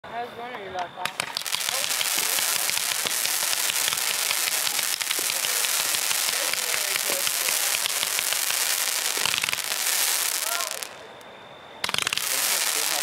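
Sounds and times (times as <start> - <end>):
firework crackling: 1.0 - 11.2, 11.8 - 13.0.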